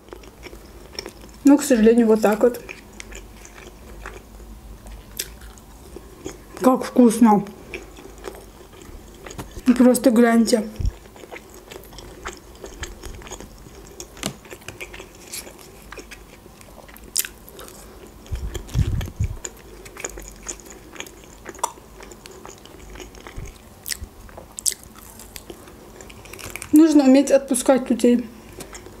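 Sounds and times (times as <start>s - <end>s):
chewing crunchy food: 0.0s - 9.9s, 10.6s - 26.9s, 28.4s - 29.0s.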